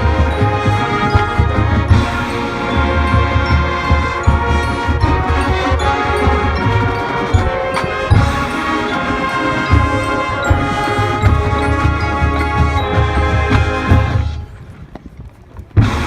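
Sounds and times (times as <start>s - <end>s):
brass chords: 0.0s - 14.6s, 15.8s - 16.0s
marching band playing: 0.0s - 14.9s, 15.8s - 16.0s
bass drums and percussion: 0.0s - 16.0s.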